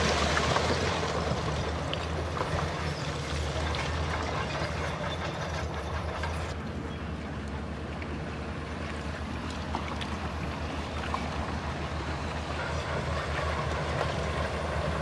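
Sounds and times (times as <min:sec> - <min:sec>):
heavy diesel engine droning: 0:00.0 - 0:09.3, 0:10.2 - 0:15.0.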